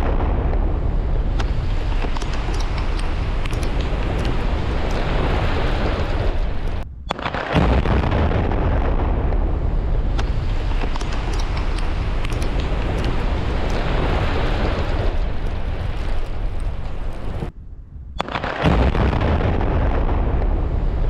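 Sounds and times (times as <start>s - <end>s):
sharp cracks: 0.0s - 8.1s, 10.1s - 17.5s, 18.2s - 20.6s
building collapsing rumble: 0.0s - 21.0s.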